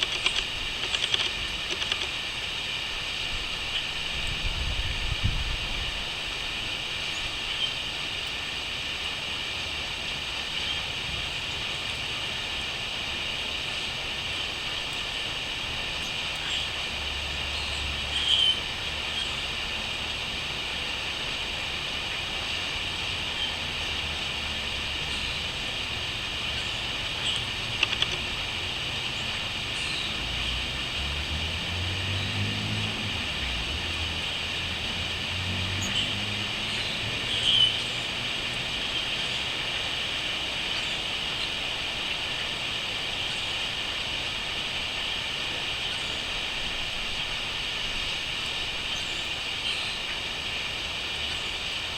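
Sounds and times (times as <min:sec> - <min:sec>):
crickets trilling: 0:00.0 - 0:08.4, 0:11.5 - 0:50.0.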